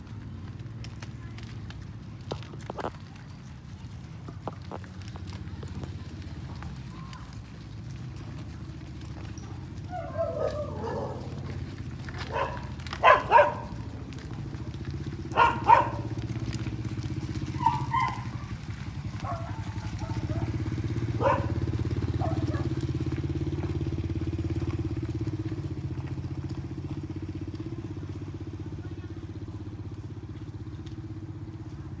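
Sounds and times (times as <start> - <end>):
cattle hooves on pavement: 0.0 - 32.0
engine humming: 0.0 - 32.0.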